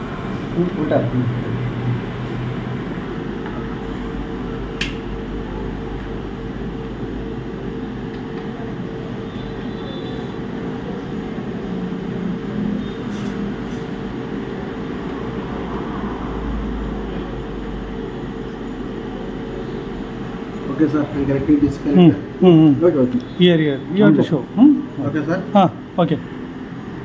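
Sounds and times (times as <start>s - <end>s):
mechanical hum and whir: 0.0s - 27.0s.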